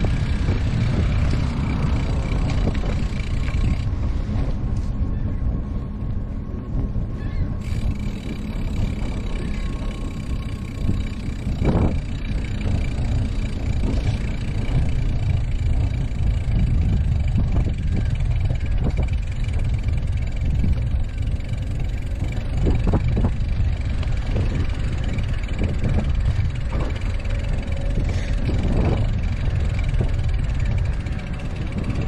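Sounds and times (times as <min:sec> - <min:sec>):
wind and road noise: 0:00.0 - 0:32.0.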